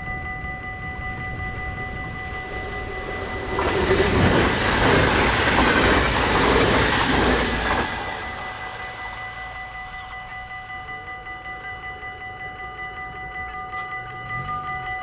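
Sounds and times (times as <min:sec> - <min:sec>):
train passing: 0:00.0 - 0:12.1
crossing warning bells ringing: 0:00.0 - 0:15.0.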